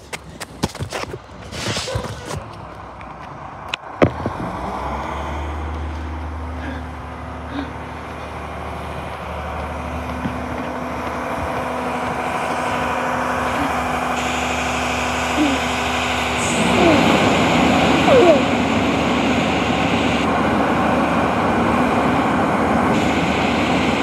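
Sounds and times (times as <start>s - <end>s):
garbage truck diesel engine running: 1.2s - 24.0s.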